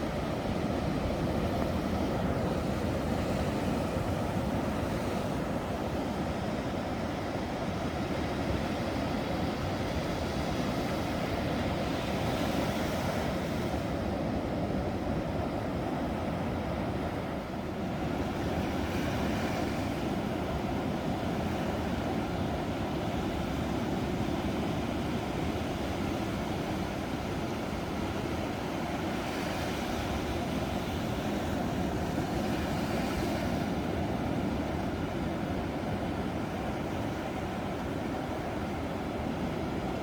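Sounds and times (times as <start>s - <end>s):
ocean waves breaking: 0.0s - 40.0s.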